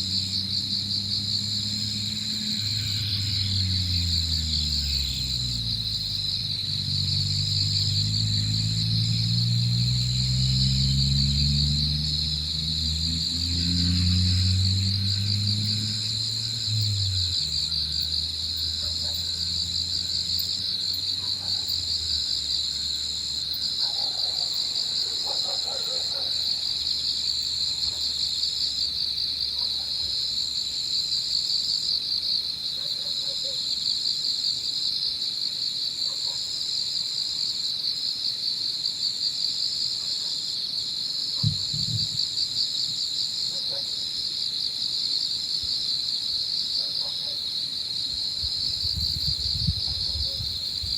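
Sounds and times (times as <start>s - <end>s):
crickets trilling: 0.0s - 50.9s
shrill insect song: 0.0s - 50.9s.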